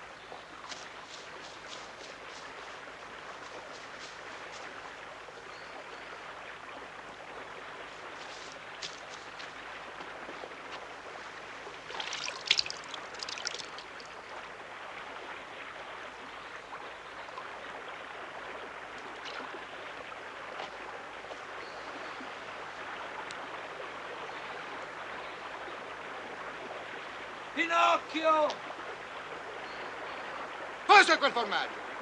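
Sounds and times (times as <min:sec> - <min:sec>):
river water flowing over stones: 0:00.0 - 0:32.0.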